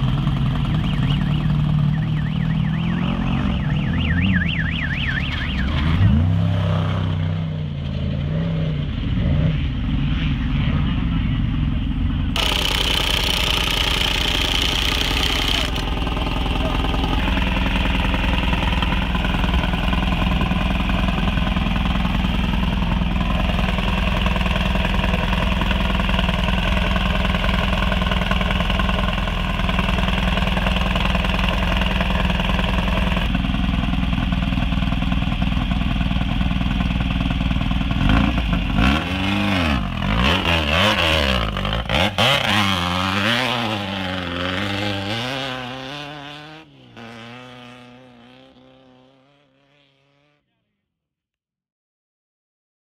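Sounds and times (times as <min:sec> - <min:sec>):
truck engine idling and revving: 0:00.0 - 0:50.4.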